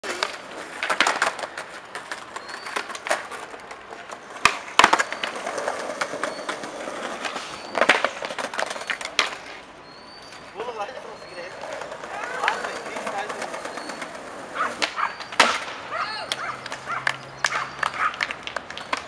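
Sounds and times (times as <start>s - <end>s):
skateboard clacking on ground: 0.0s - 19.0s
skateboard wheels rolling on stone: 0.0s - 19.0s.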